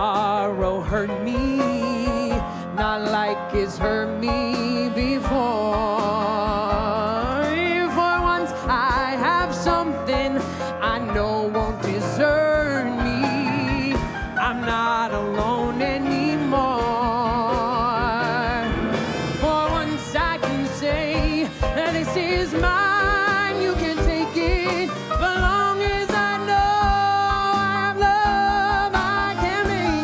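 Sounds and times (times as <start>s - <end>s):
band music: 0.0s - 30.0s
person singing with vibrato: 0.0s - 30.0s.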